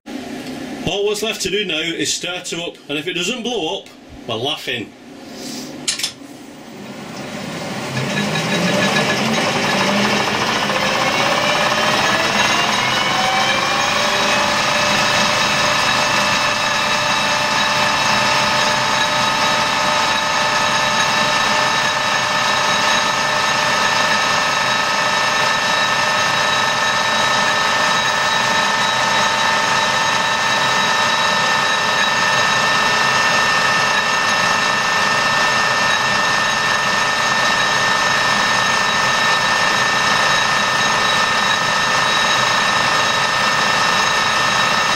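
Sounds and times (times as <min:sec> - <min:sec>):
lathe gears whining: 0:06.8 - 0:44.9.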